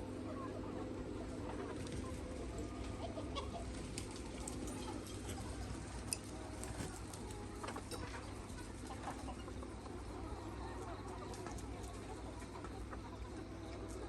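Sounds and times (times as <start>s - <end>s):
hens clucking softly: 0.0s - 14.0s.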